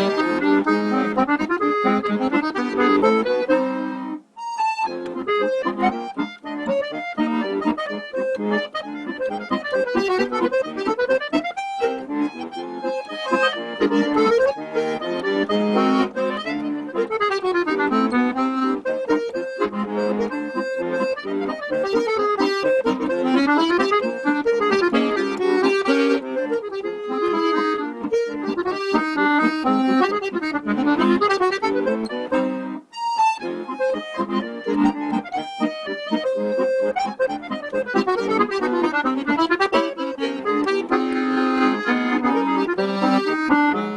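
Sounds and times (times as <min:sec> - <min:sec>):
accordion playing lively melody: 0:00.0 - 0:43.9.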